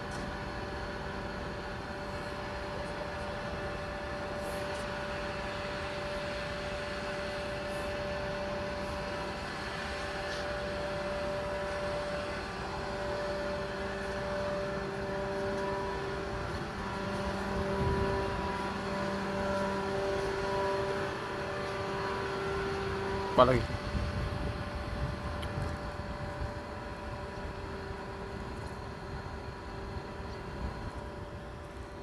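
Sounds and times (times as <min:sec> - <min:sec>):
ship engine droning: 0:00.0 - 0:32.0.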